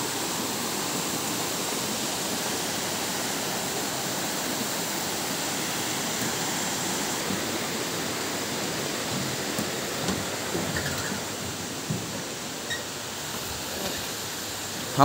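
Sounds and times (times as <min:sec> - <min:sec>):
water rushing over boulders: 0:00.0 - 0:15.0.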